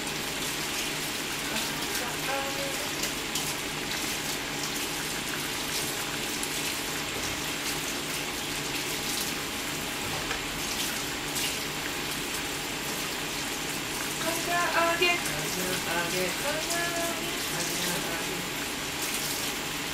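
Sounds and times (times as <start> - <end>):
deep-frying sizzle and crackles: 0.0 - 19.9.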